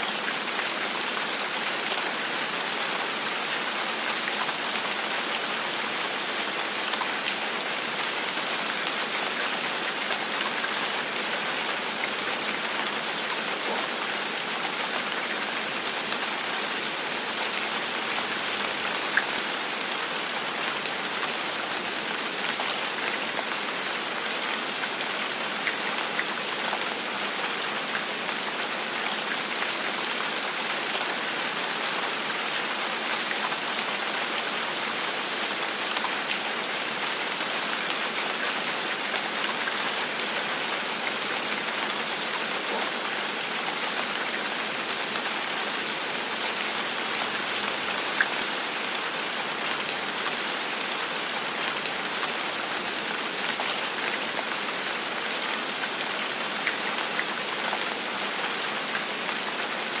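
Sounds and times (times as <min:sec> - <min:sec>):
gentle rain falling: 0:00.0 - 1:00.0.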